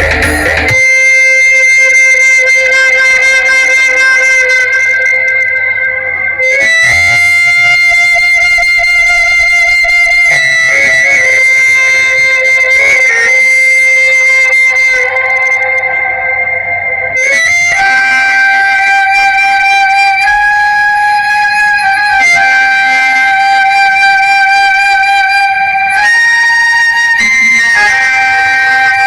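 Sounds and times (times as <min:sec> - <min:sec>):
flute-like melody over sound system: 0:00.0 - 0:29.0.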